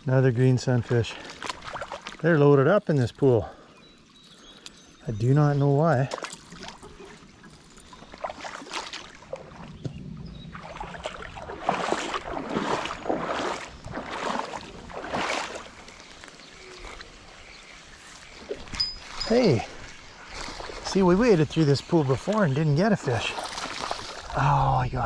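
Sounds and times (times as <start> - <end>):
legs sloshing through water: 0.8 - 2.3, 5.6 - 24.7.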